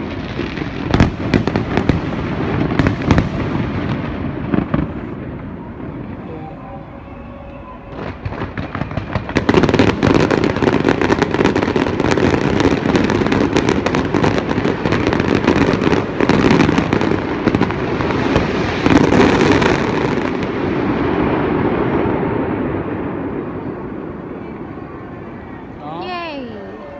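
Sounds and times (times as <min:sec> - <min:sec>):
fireworks crackling bangs: 0:00.0 - 0:26.1.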